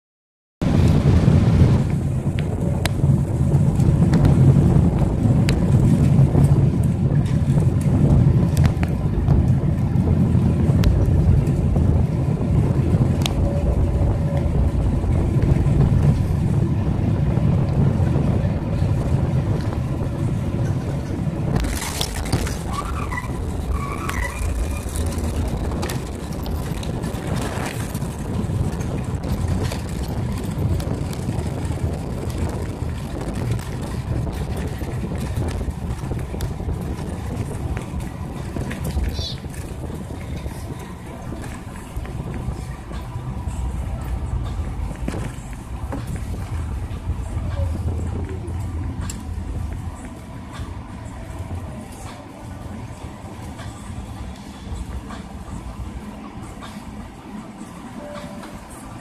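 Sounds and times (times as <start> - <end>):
airplane cabin engine noise: 0.6 - 59.0.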